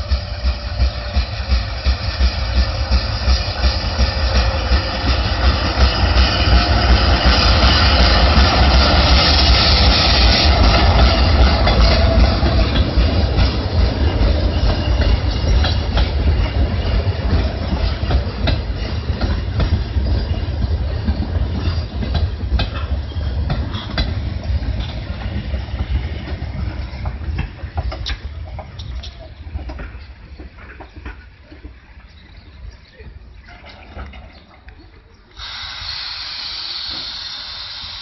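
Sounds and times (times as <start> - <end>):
train wheels clicking over rail joints: 0.0 - 32.4, 35.3 - 38.0
diesel locomotive passing: 0.0 - 32.7, 33.3 - 38.0
train rolling rumble: 0.0 - 38.0.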